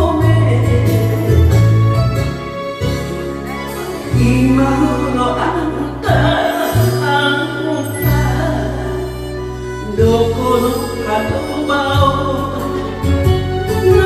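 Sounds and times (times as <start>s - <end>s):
woman singing into a microphone: 0.0s - 1.5s, 3.7s - 14.0s
karaoke backing track: 0.0s - 14.0s.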